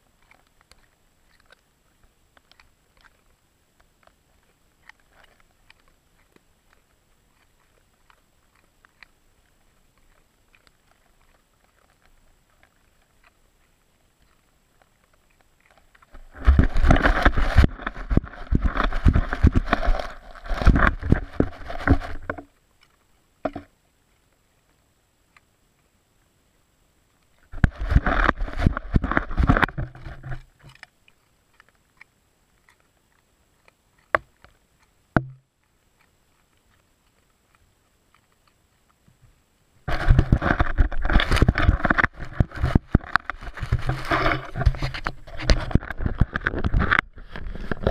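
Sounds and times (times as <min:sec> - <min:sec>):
dog crunching a carrot: 0:00.1 - 0:23.7, 0:27.2 - 0:39.0, 0:39.9 - 0:47.9.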